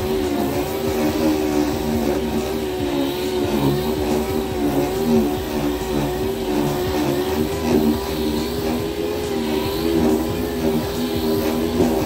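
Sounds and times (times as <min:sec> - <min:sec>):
orbital sander running: 0:00.0 - 0:12.0.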